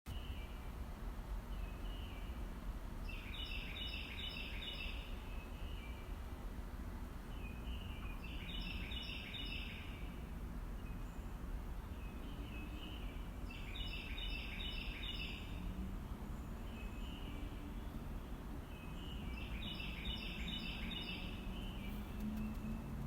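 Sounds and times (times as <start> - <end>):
low outdoor rumble: 0.1 - 23.0
songbird chirping: 1.4 - 6.2, 6.9 - 23.0.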